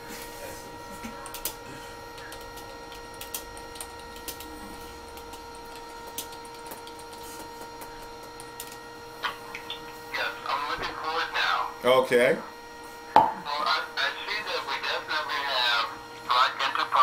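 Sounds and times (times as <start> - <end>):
phone line electrical hum: 0.0 - 17.0.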